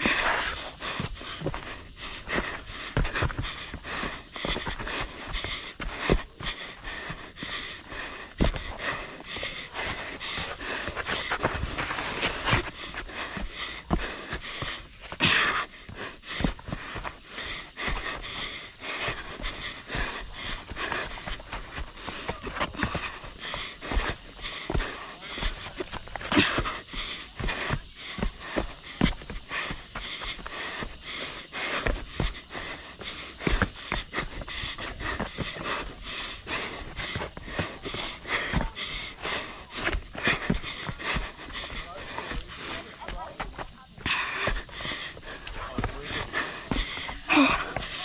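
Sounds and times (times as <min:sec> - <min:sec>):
footfalls on dirt and rock: 0:00.0 - 0:48.0
runner panting hard: 0:00.0 - 0:48.0.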